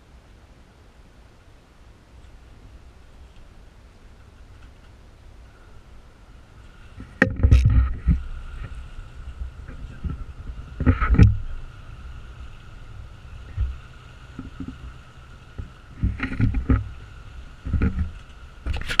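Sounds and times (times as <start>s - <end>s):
boat engine low rumble: 0.0s - 19.0s
thin steady hum: 0.0s - 19.0s.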